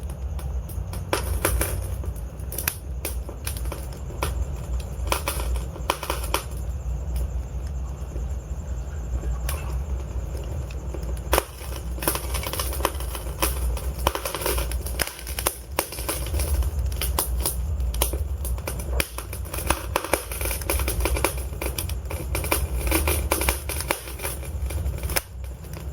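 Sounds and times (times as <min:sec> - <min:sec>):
logs crackling and popping: 0:00.0 - 0:25.9
low rumble of flames: 0:00.0 - 0:25.9.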